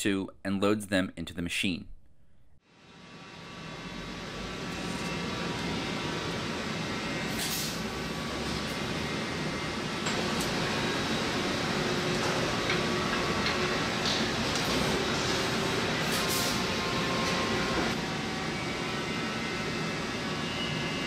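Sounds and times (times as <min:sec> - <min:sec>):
machine shop hum and hiss: 0:02.7 - 0:21.0.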